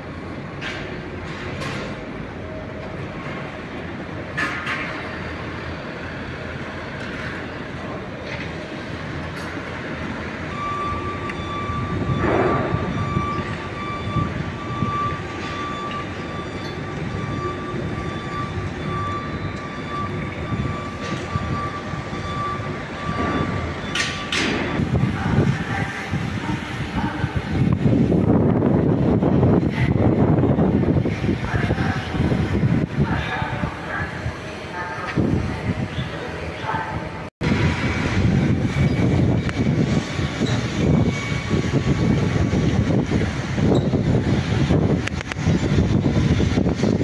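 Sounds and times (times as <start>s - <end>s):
train rumbling on tracks: 0.0s - 47.0s.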